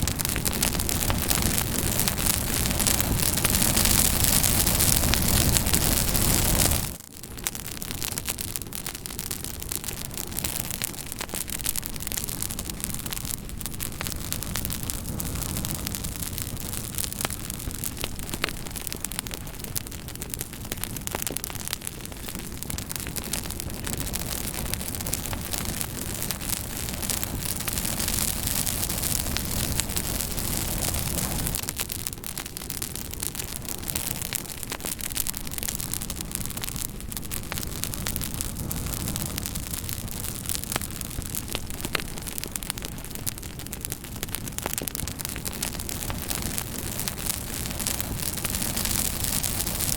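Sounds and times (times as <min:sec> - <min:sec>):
campfire crackling and popping: 0:00.0 - 0:49.9
fire hiss and low rumble: 0:00.0 - 0:49.9.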